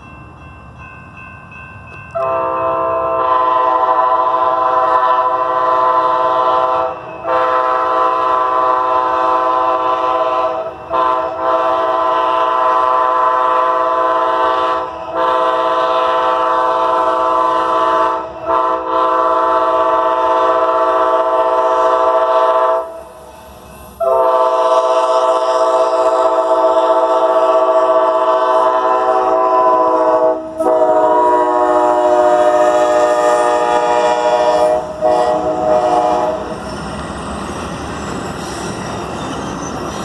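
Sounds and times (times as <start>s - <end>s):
locomotive air horn: 2.2s - 23.2s, 24.0s - 36.6s.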